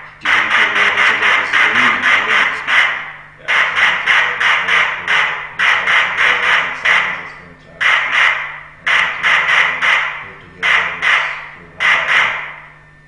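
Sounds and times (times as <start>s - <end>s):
rapid short noise bursts: 0.0s - 12.6s.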